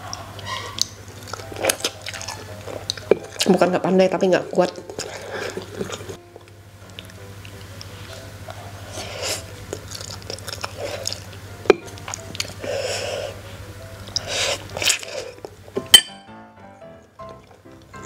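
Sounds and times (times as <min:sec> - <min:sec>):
person chewing noodles: 0:00.0 - 0:03.5, 0:04.7 - 0:15.7.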